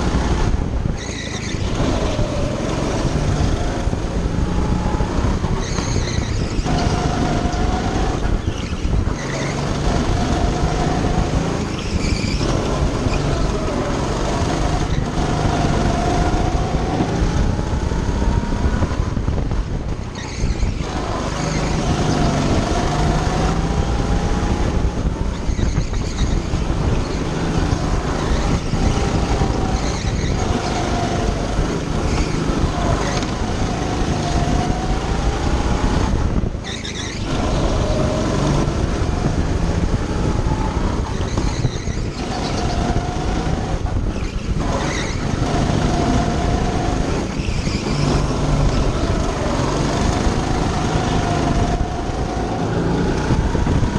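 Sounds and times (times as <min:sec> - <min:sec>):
go-kart engine at full throttle: 0:00.0 - 0:53.9.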